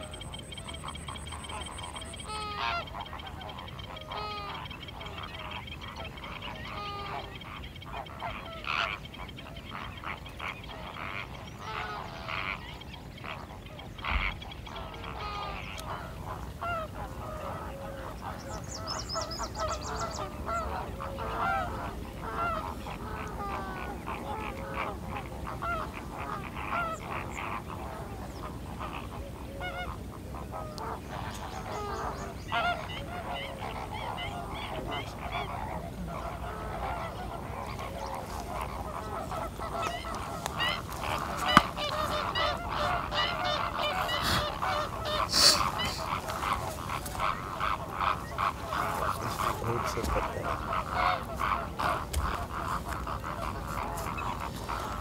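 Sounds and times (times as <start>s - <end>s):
flamingos honking: 0.0s - 55.0s.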